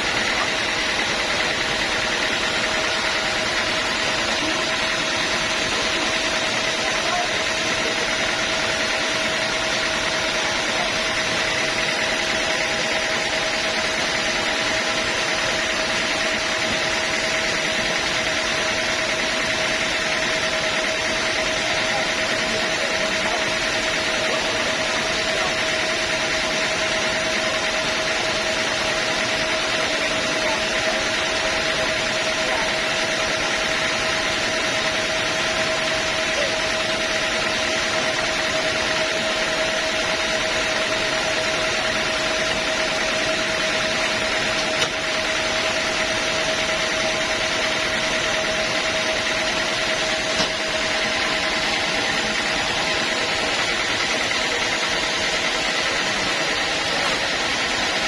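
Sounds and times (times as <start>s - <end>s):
bandsaw machinery whining: 0.0s - 58.0s.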